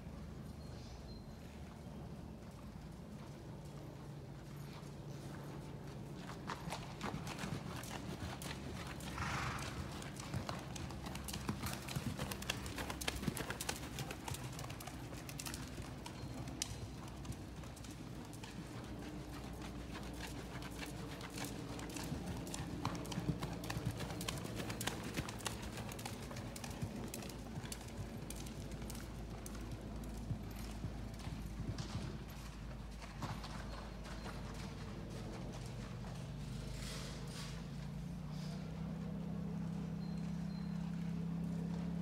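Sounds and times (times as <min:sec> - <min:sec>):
horse hoofbeats on soft dirt: 0:00.0 - 0:42.0.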